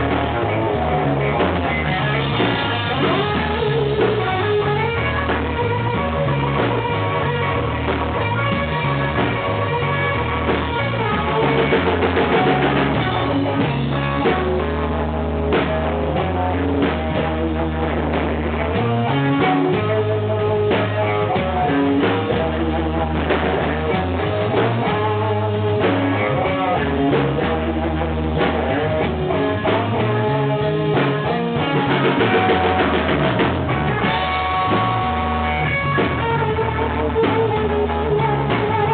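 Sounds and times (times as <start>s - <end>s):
bass guitar: 0.0s - 38.9s
drum kit: 0.0s - 38.9s
guitar: 0.0s - 38.9s.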